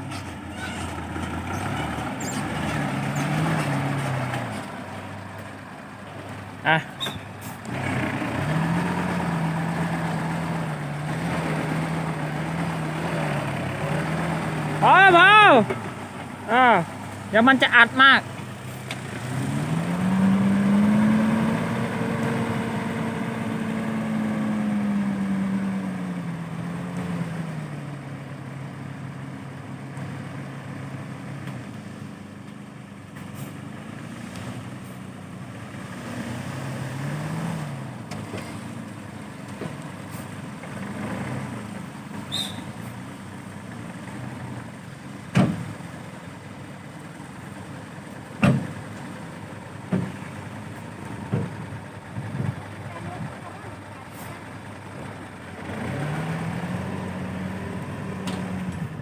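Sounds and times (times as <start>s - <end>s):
truck engine revving: 0.0s - 28.3s, 33.2s - 59.0s.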